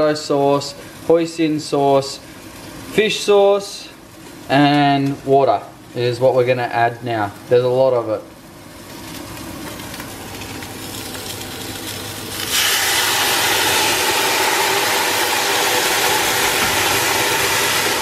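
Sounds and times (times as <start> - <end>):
crab frying in pot: 0.0 - 18.0
loud hissing sizzle: 0.0 - 18.0.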